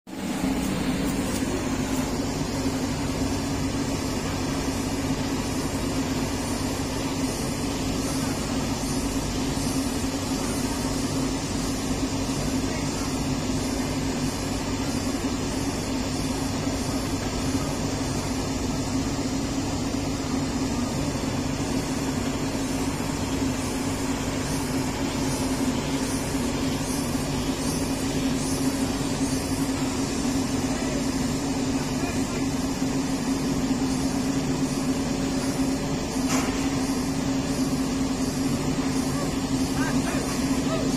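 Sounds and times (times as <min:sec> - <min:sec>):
diesel engine droning: 0:00.1 - 0:40.9.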